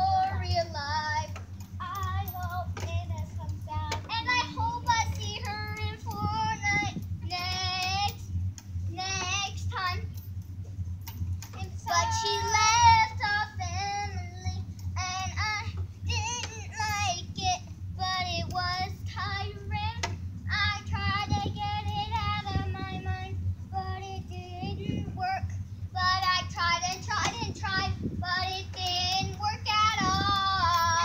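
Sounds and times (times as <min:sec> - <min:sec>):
girl singing: 0:00.0 - 0:08.3, 0:08.9 - 0:10.2, 0:11.5 - 0:31.0.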